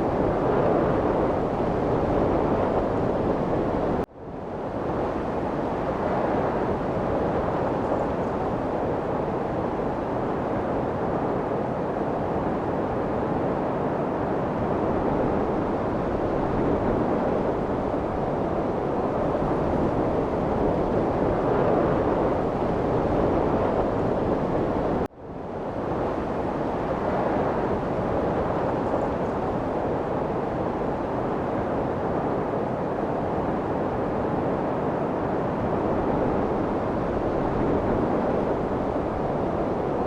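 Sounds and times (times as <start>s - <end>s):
wind blowing: 0.0s - 40.0s.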